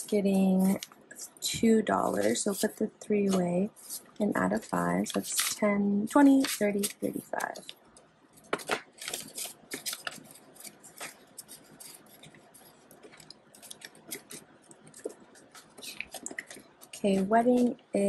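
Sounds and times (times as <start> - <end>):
paper banknotes rustling: 2.1 - 7.8, 8.4 - 17.8.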